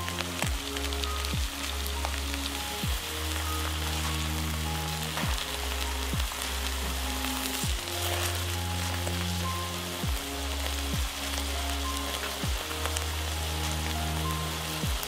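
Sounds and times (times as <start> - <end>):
background music with deep beat: 0.0 - 15.0
cabbage sizzling in a frying pan: 0.0 - 15.0.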